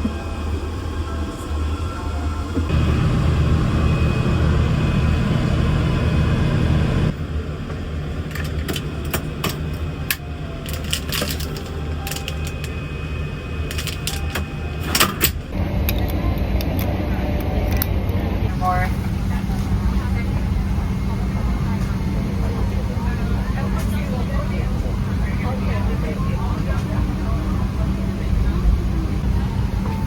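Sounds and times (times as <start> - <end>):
airliner cabin hum: 0.0 - 30.0.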